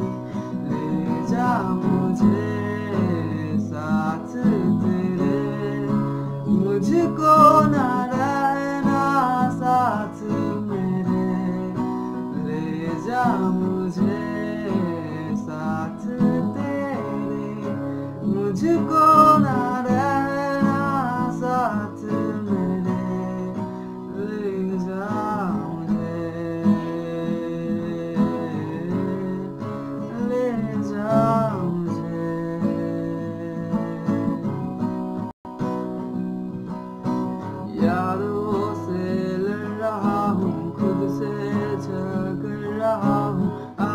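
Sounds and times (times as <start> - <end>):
man singing: 0.0 - 34.6, 37.5 - 43.9
acoustic guitar strumming: 0.0 - 43.9.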